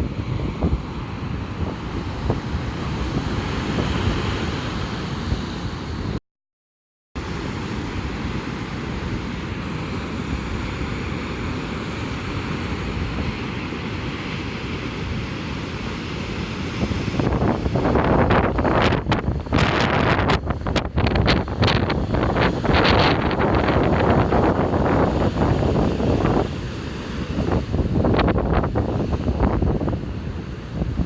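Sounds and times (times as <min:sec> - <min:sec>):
heavy surf rushing: 0:00.0 - 0:06.2, 0:07.2 - 0:31.0
wind buffeting microphone: 0:00.0 - 0:06.2, 0:07.3 - 0:31.0.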